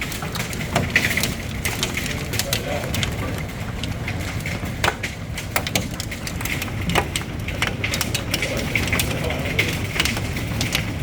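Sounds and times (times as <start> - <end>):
hailstones striking hard surfaces: 0.0 - 11.0
rain rushing: 0.0 - 11.0.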